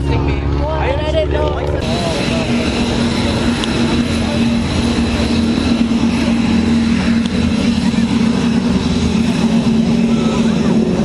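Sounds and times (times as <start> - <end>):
propeller airplane engine drone: 0.0 - 11.0.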